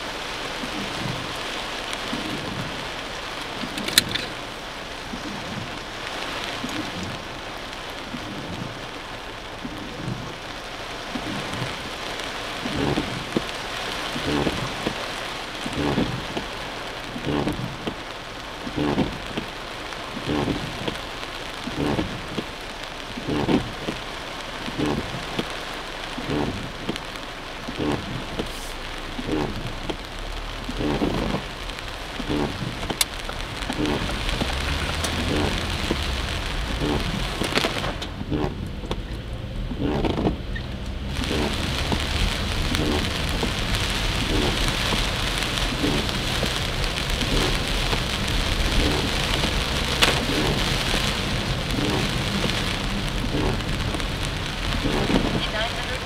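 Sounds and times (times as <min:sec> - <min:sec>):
heavy rain on car roof: 0:00.0 - 0:56.0
windshield wipers swish-thump: 0:00.4 - 0:10.4, 0:11.0 - 0:22.6, 0:23.2 - 0:25.6, 0:26.2 - 0:56.0.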